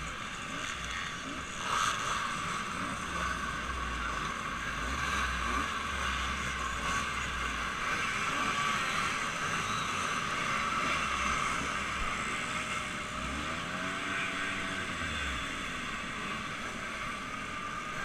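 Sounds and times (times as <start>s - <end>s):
motorboat engine hum: 0.0s - 18.0s.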